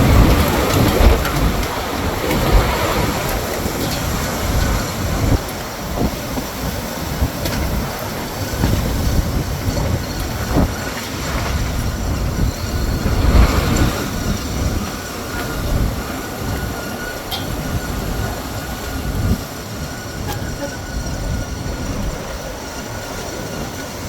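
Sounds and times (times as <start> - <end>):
storm wind gusting: 0.0 - 24.0
wind buffeting microphone: 0.0 - 24.0.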